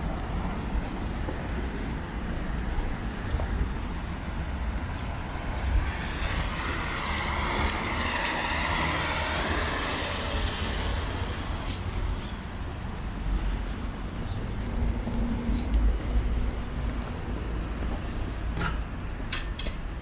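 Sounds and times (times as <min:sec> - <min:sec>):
low traffic rumble: 0:00.0 - 0:20.0
vehicle passing by: 0:01.8 - 0:18.4.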